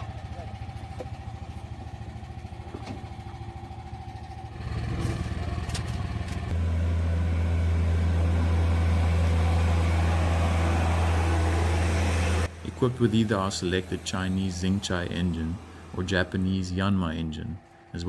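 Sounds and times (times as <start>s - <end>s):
diesel loader engine droning: 0.0s - 18.0s.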